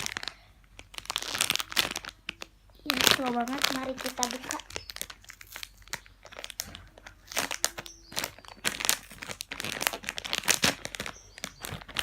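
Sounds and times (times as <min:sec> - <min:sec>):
plastic packaging crinkling and tearing: 0:00.0 - 0:12.0.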